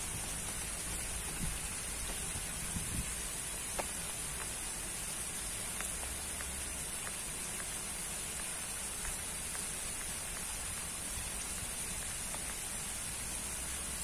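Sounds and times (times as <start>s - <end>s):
water jets splashing onto pond: 0.0s - 14.0s.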